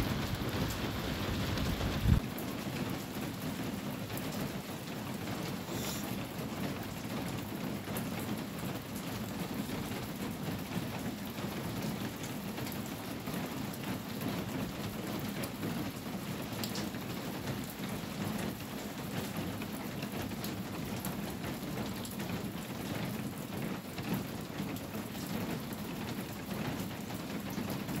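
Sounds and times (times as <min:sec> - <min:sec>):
rain on a tin roof: 0:00.0 - 0:28.0.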